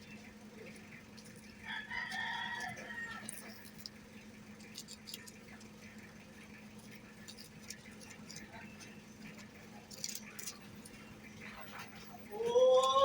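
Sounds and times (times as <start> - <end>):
guinea pig chewing: 0.0 - 12.2.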